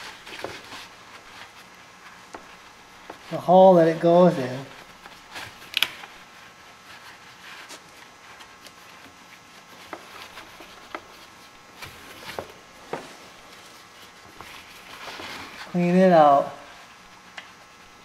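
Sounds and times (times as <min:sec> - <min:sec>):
cloth rubbing inside engine case: 0:00.0 - 0:18.0.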